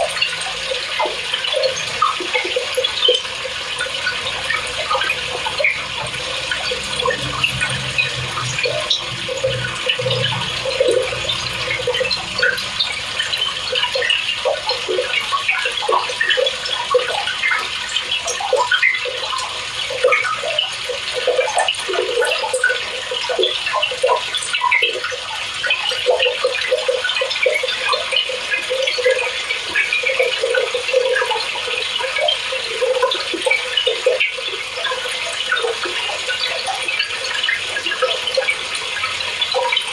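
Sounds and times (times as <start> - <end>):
washer filling with water: 0.0 - 39.9.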